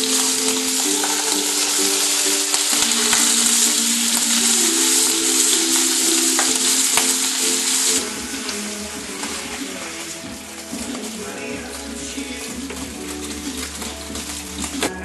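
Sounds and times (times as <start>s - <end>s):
meat sizzling in frying pan: 0.0s - 14.9s
slow background music: 0.0s - 15.0s.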